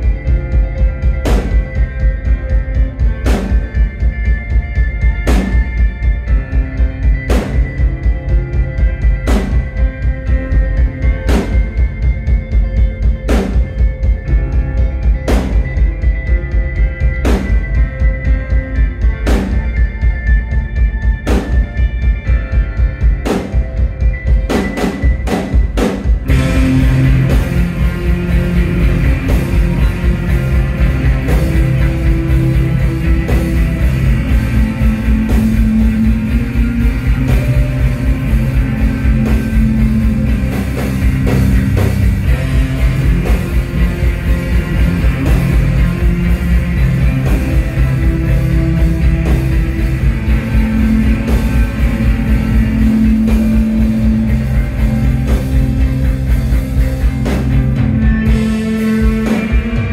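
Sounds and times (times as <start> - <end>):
drum kit playing: 0.0 - 59.9
electric guitars: 0.0 - 59.9.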